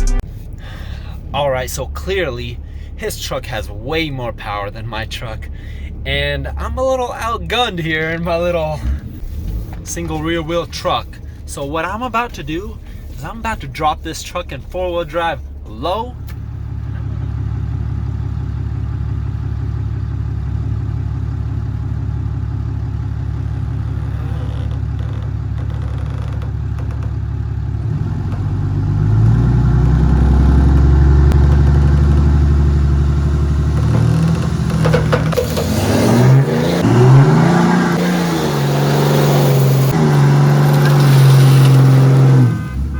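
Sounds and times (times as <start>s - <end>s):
pickup truck engine idling and revving: 0.0s - 42.9s.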